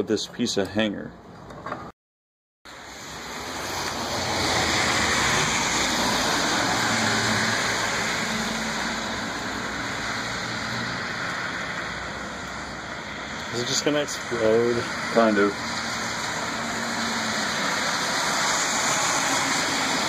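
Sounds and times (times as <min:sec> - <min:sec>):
transformer hiss and hum: 0:02.7 - 0:20.0.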